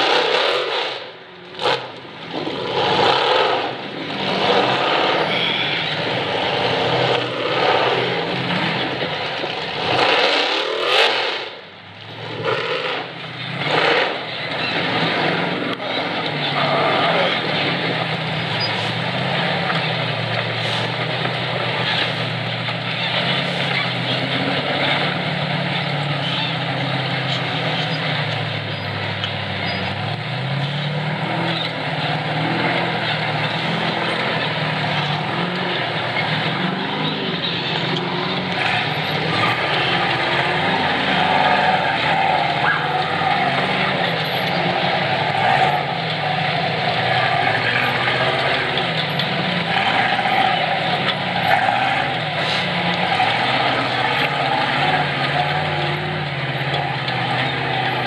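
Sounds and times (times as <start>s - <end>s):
buggy engine revving: 0.0s - 58.0s.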